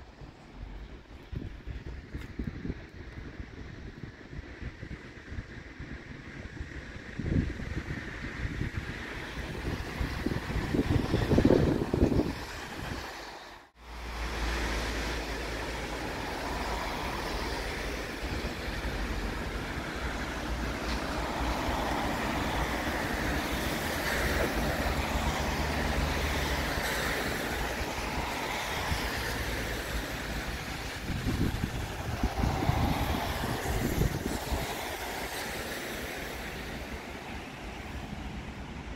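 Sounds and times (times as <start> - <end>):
road traffic: 0.0 - 38.9
wind buffeting microphone: 0.0 - 38.9.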